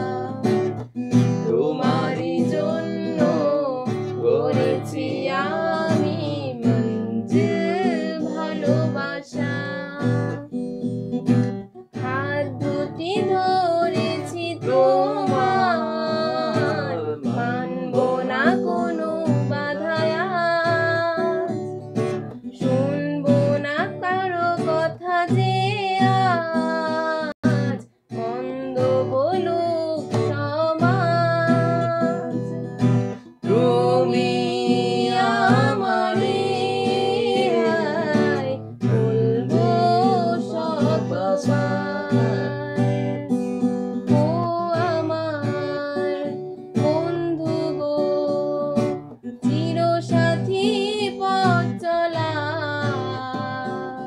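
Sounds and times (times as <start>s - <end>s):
person singing: 0.0s - 10.6s, 11.8s - 54.0s
acoustic guitar strumming: 0.0s - 54.0s.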